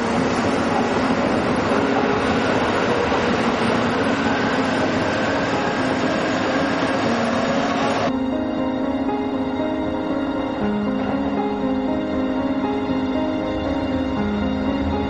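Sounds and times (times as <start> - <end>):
soft low film music: 0.0 - 15.0.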